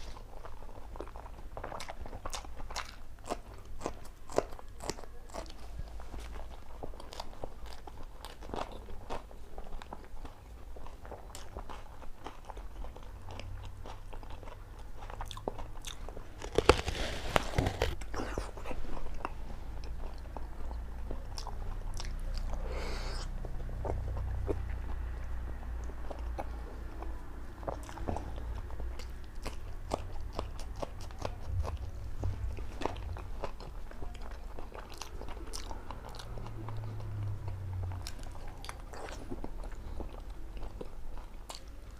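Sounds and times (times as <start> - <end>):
person chewing with crunches: 0.0 - 41.9.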